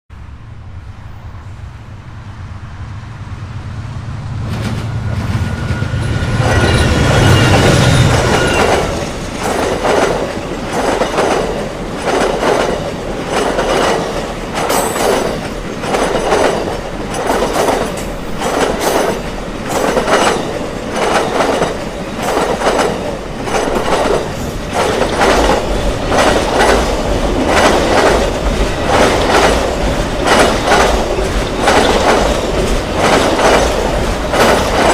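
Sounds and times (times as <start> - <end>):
diesel locomotive engine hum: 0.1 - 34.9
train wheels clickety-clack: 4.4 - 34.9.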